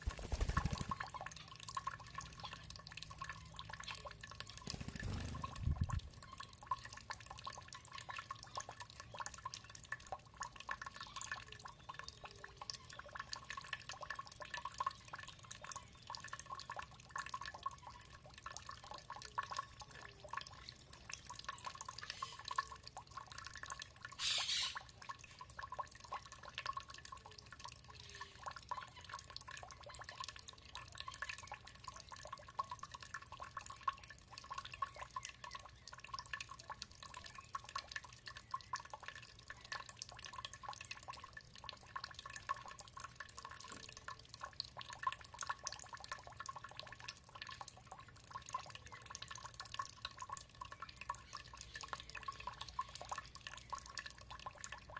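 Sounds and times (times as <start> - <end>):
water dripping and trickling: 0.1 - 54.9.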